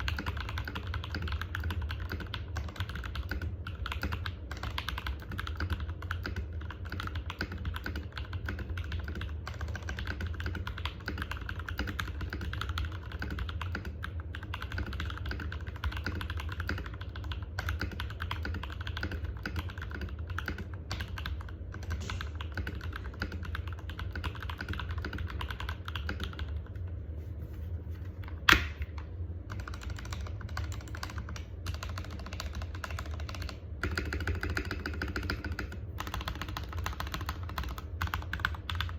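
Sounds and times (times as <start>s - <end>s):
mechanical keyboard typing: 0.0s - 26.8s, 29.5s - 38.9s.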